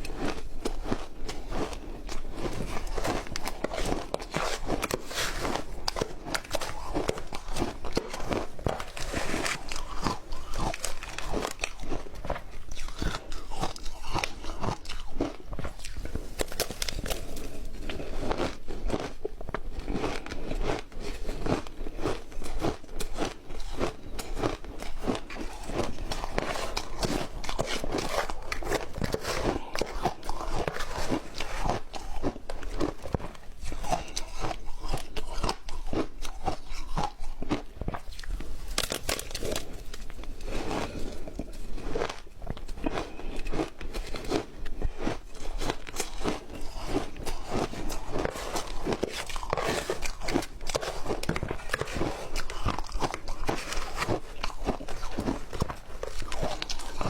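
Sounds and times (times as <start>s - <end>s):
person crunching ice: 0.0s - 57.0s.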